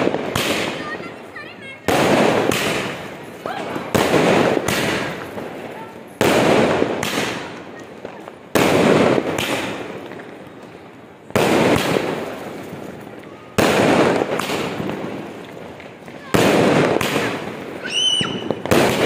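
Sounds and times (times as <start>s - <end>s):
fireworks bangs: 0.0s - 19.0s
fireworks crackles: 0.0s - 19.0s.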